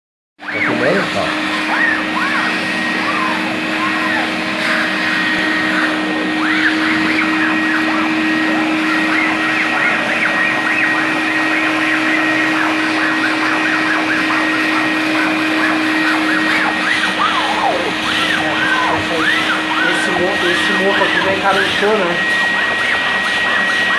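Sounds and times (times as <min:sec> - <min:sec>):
vacuum cleaner running: 0:00.4 - 0:23.9.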